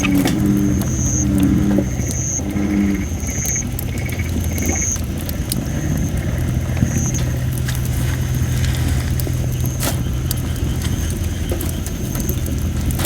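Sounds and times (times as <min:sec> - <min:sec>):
campfire crackles and pops: 0:00.0 - 0:13.0
steady low hum: 0:00.0 - 0:13.0
steam hissing from damp wood: 0:00.0 - 0:13.0.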